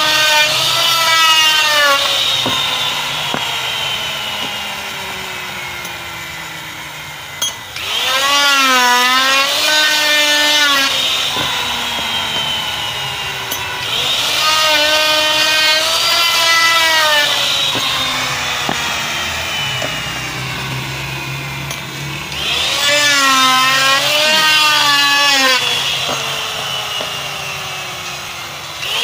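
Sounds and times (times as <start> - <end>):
electric router whining: 0.0 - 29.0.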